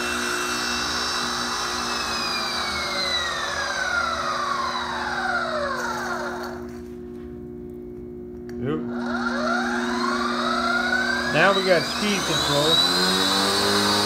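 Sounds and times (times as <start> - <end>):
electric motor whine sliding down: 0.0 - 7.0, 8.9 - 14.0
steady low hum: 0.0 - 13.9.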